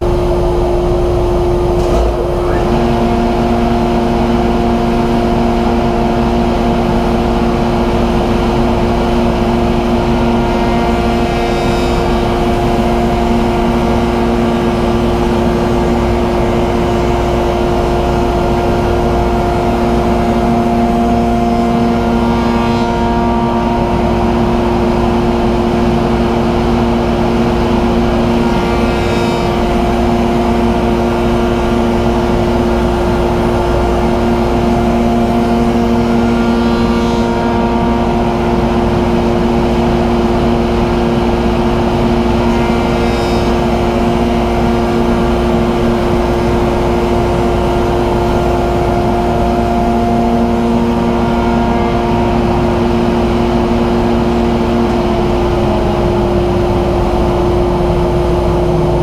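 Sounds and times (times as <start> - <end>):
dust collector running: 0.0 - 59.0
wood shaper machine running: 0.0 - 59.0.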